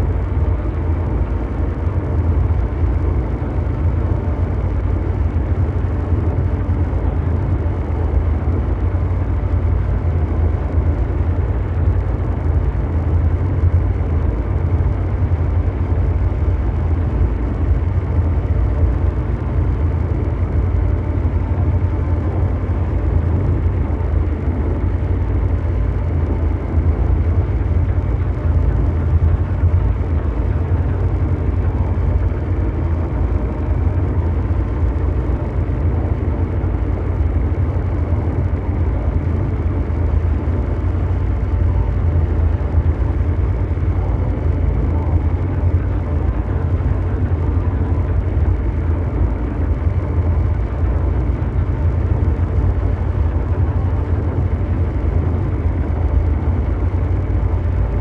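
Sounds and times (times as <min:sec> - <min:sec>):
deep mechanical drone: 0:00.0 - 0:58.0.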